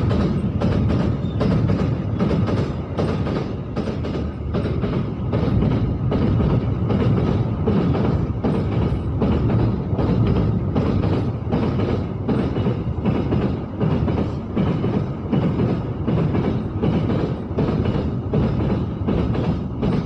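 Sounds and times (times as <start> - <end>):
train wheels clacking over rail joints: 0.0 - 20.0.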